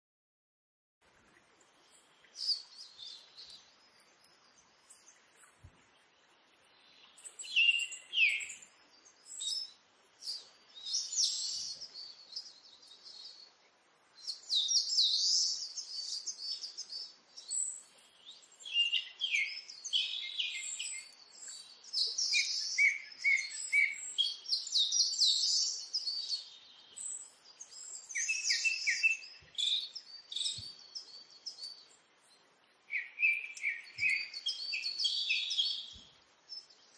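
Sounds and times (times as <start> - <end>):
small birds chirping: 1.1 - 36.9.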